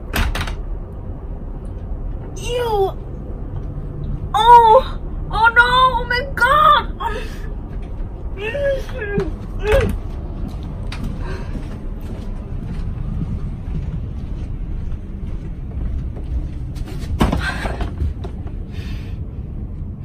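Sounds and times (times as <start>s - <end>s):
aircraft cabin rumble: 0.0s - 4.2s, 7.0s - 20.0s.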